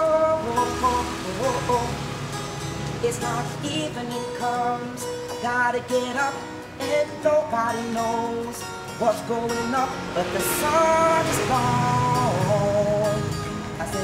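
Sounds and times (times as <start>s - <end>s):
man singing: 0.0s - 2.2s, 3.0s - 14.0s
acoustic guitar strummed: 0.0s - 14.0s.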